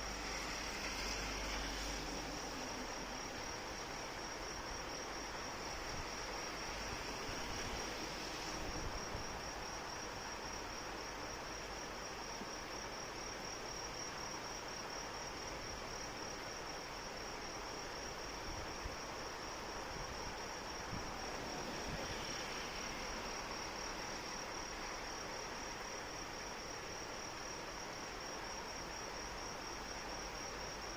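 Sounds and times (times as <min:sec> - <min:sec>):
crickets trilling: 0:00.0 - 0:30.9
steady rain falling: 0:00.0 - 0:30.9.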